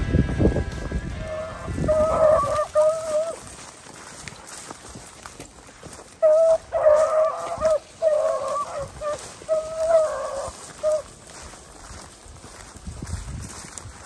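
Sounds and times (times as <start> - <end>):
hounds baying: 0.7 - 12.2.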